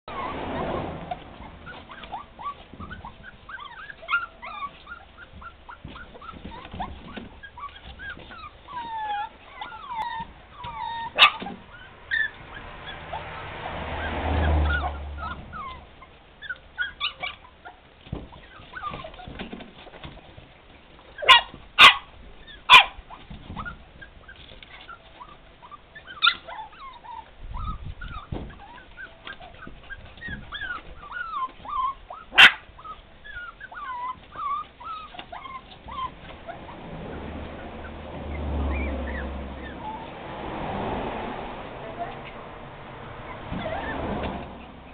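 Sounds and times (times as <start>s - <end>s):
puppies whining and yipping: 0.1s - 40.5s, 42.0s - 44.9s.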